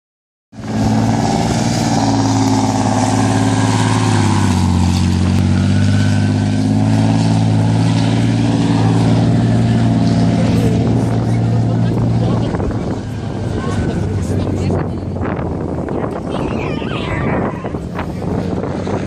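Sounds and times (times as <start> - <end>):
tank diesel engine driving past: 0.6 - 19.0.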